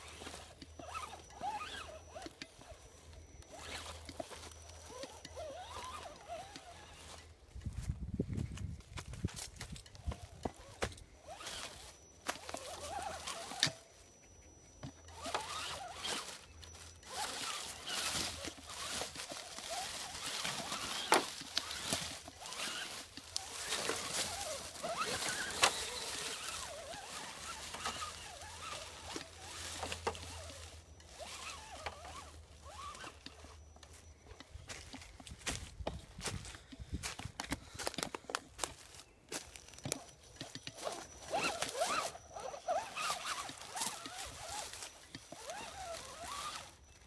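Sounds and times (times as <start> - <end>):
footsteps crunching through dry leaves: 0.0 - 47.0.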